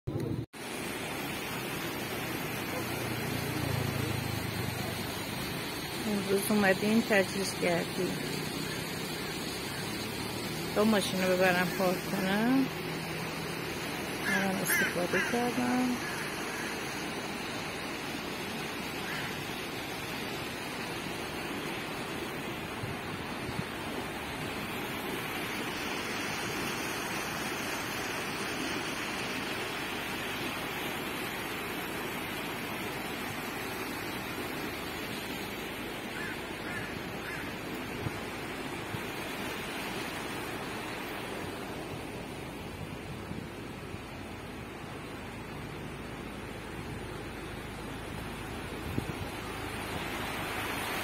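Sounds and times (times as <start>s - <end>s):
steady rushing outdoor noise: 0.1s - 51.0s.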